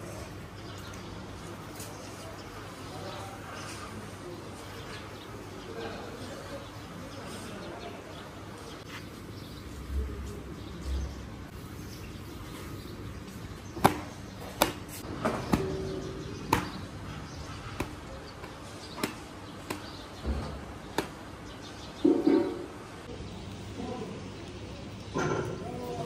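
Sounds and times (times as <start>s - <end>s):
street background noise: 0.0s - 26.0s.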